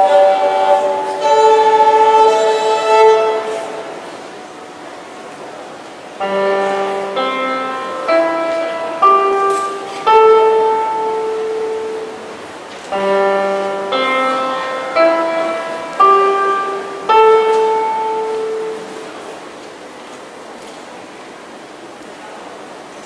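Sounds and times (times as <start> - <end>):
electronic piano notes: 0.0 - 20.0.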